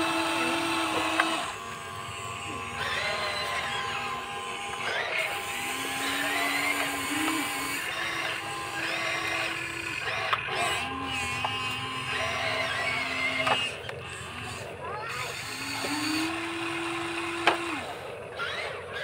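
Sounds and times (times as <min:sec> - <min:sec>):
toy electric motors whining: 0:00.0 - 0:19.0.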